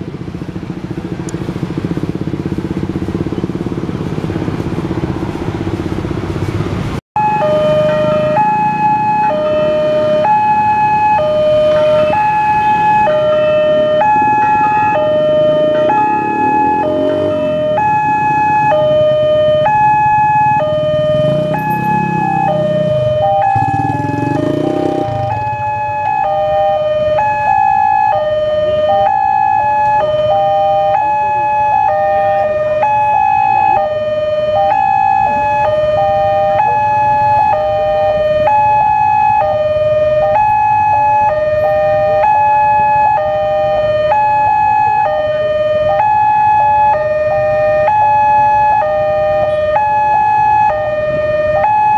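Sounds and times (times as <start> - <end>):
two-tone crossing alarm: 7.2 - 51.9.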